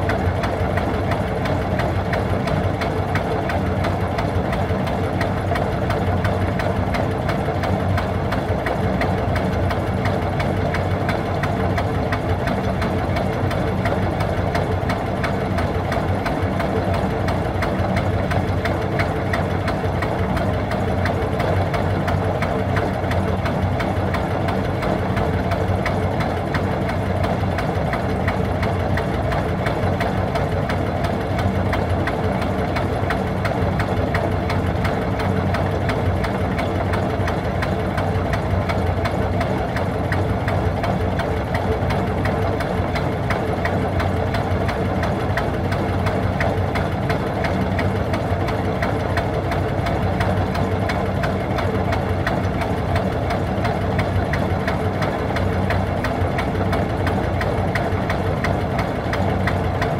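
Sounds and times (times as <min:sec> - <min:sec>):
marine diesel engine knocking: 0:00.0 - 0:59.9.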